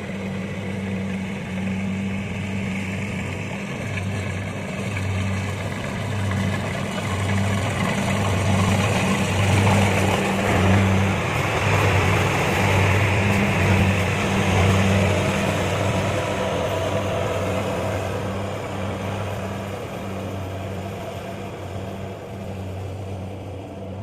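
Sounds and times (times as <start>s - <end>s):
diesel engine hum: 0.0s - 24.0s.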